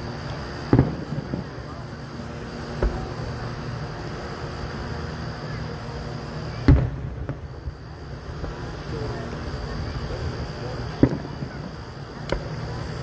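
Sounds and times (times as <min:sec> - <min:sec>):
distant fireworks booming: 0:00.0 - 0:13.0
steady low hum: 0:00.0 - 0:13.0.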